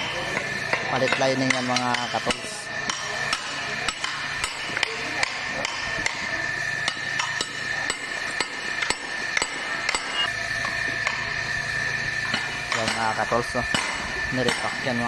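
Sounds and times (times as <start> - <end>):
hammers striking metal: 0.0 - 15.0.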